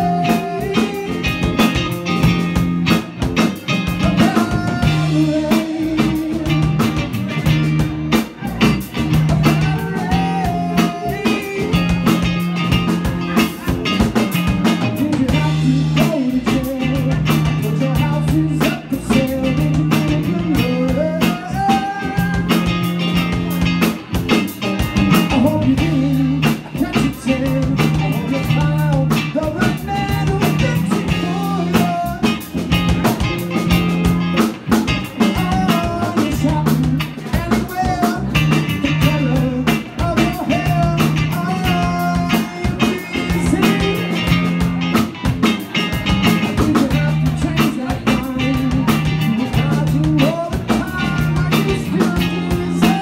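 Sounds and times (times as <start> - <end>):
drum kit: 0.0 - 53.0
electric bass: 0.0 - 53.0
electric guitar: 0.0 - 53.0
man singing lead: 0.0 - 53.0.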